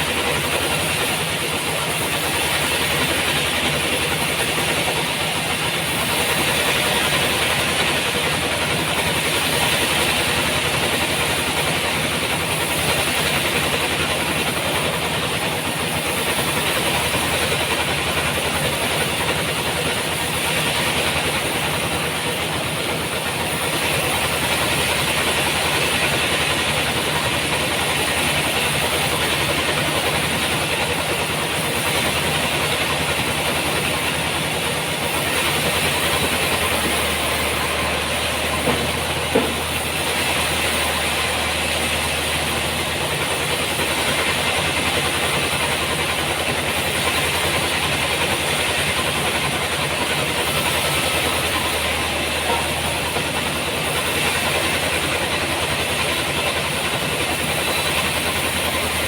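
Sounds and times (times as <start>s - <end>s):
sawmill machine drone: 0.0s - 59.0s.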